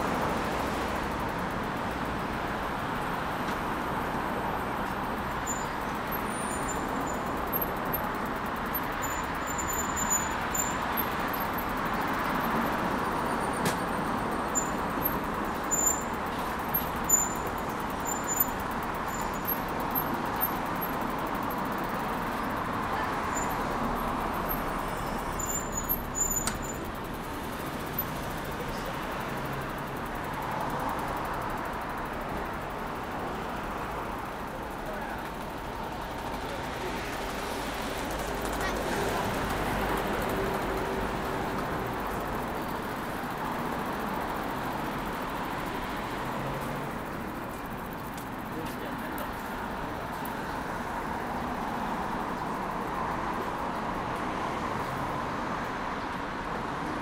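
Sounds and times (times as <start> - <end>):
busy road traffic: 0.0 - 57.0.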